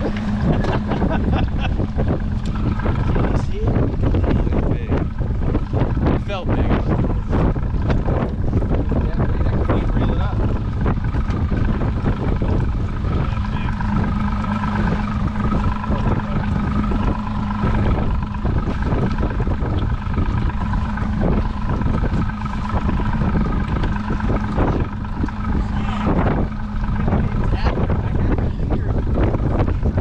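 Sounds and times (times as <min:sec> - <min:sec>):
boat motor humming: 0:00.0 - 0:30.0
wind buffeting microphone: 0:00.0 - 0:30.0.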